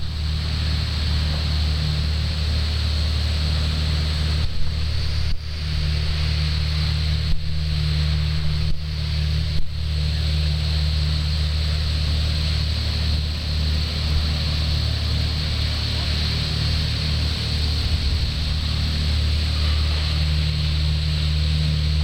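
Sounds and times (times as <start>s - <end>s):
boat engines droning: 0.0s - 22.0s
water pump hiss: 0.0s - 22.0s.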